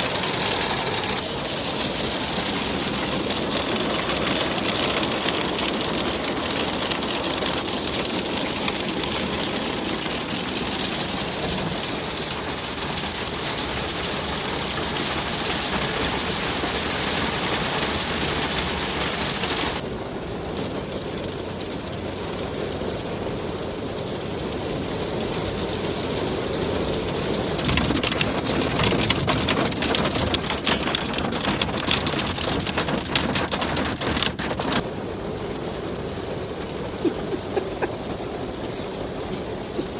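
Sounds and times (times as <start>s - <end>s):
hail pattering: 0.0s - 39.9s.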